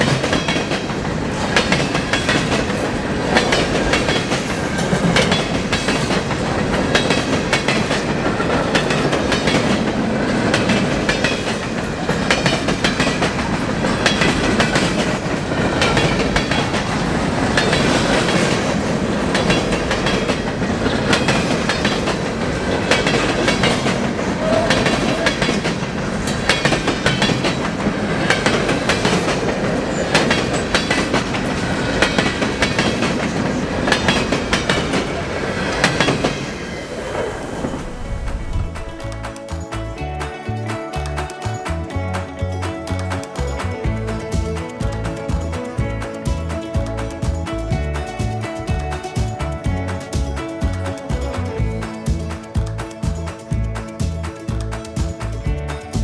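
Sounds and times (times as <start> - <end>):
train wheels clicking over rail joints: 0.0 - 40.0, 41.6 - 56.0
freight train rumble: 0.0 - 56.0.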